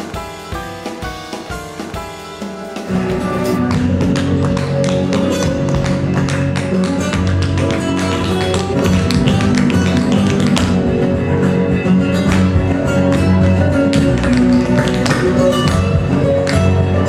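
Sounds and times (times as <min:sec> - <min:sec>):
flamenco guitar music: 0:00.0 - 0:17.0
tap shoes striking stage floor: 0:03.0 - 0:17.0.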